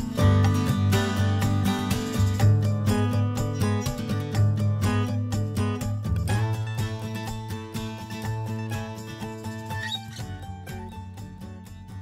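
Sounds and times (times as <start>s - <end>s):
country acoustic guitar music: 0.0s - 12.0s.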